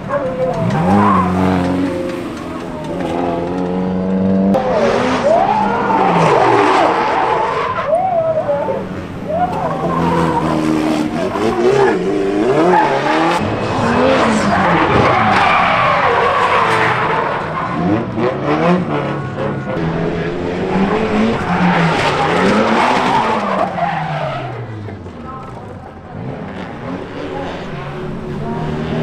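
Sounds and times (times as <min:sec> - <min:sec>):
tyres screeching: 0:00.0 - 0:25.6
car engines revving: 0:00.0 - 0:29.0.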